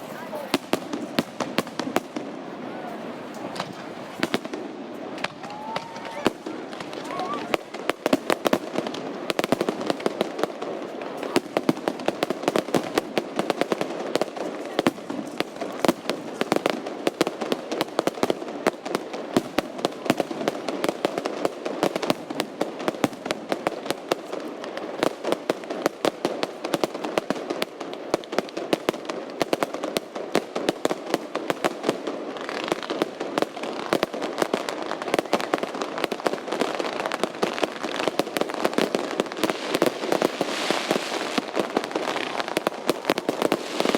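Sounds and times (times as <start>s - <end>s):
fireworks crackling and popping: 0.0s - 43.9s.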